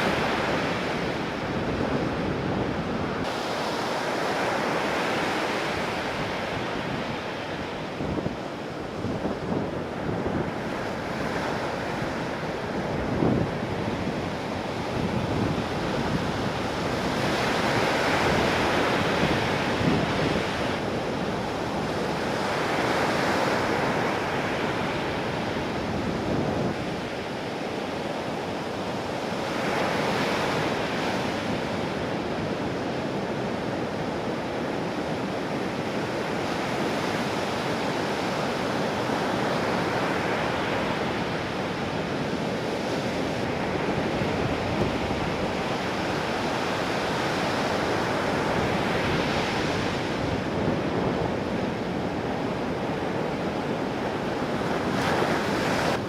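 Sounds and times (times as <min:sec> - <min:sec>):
ocean waves breaking: 0:00.0 - 0:56.0
wind buffeting microphone: 0:00.0 - 0:56.0.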